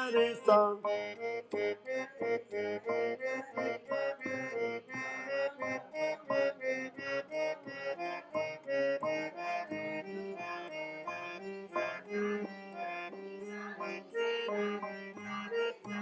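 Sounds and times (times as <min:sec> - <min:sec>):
harmonium playing stepwise notes: 0:00.0 - 0:16.0.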